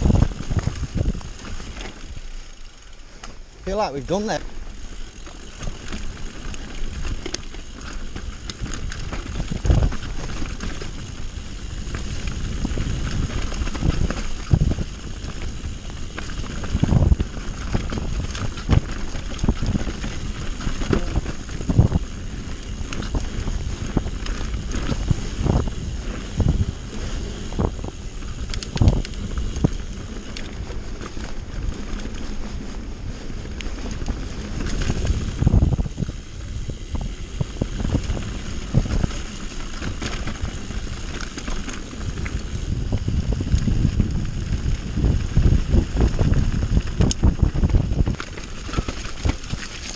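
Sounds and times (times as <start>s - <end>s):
wind on microphone: 0.0s - 1.8s, 8.4s - 30.9s, 32.6s - 49.9s
bike thumping and rattling: 0.0s - 49.9s
bike tyres rolling on dirt: 0.0s - 49.9s.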